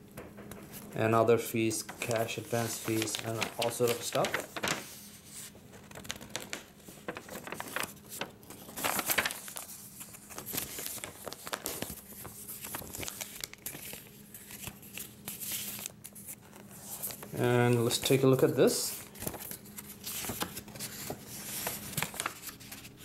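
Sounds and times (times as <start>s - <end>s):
paper rustling and crinkling: 0.3s - 23.0s.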